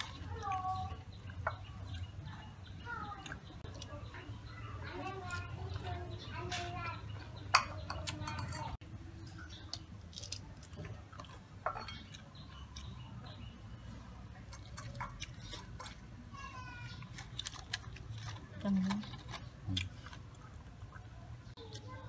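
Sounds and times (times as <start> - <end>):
chewing: 0.0 - 16.1, 16.9 - 22.0.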